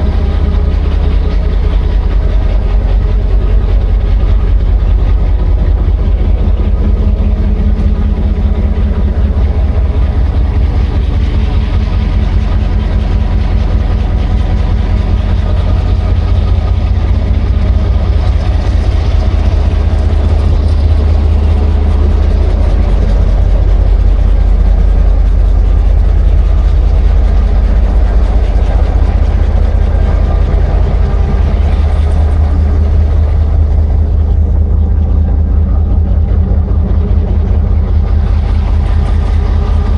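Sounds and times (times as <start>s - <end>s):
heavy engine rumbling: 0.0s - 39.9s
steady hum: 0.0s - 39.9s.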